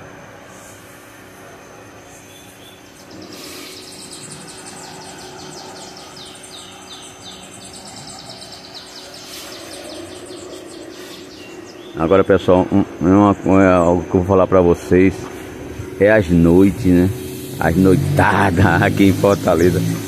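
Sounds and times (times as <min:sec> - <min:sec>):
birds chirping: 0:00.0 - 0:20.0
faint steady hum: 0:00.0 - 0:20.0.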